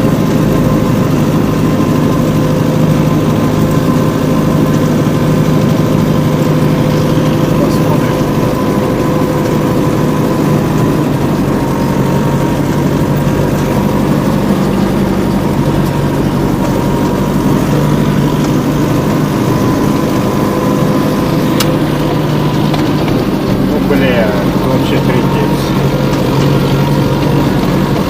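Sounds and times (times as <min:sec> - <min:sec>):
small tractor engine running: 0:00.0 - 0:28.0.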